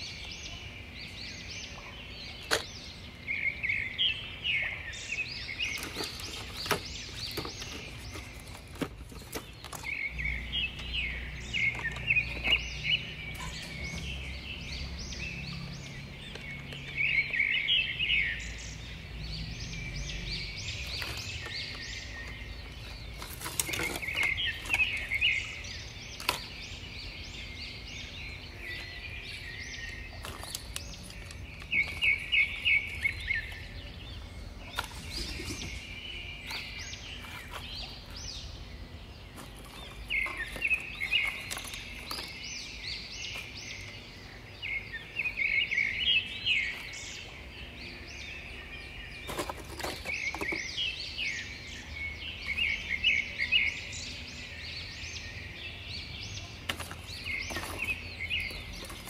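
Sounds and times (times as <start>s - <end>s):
birds chirping: 0.0s - 59.0s
outdoor background noise: 0.0s - 59.0s.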